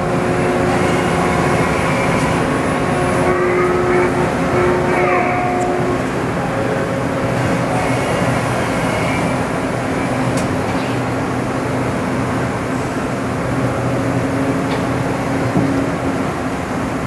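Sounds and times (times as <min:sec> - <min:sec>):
machinery hum and whir: 0:00.0 - 0:17.0.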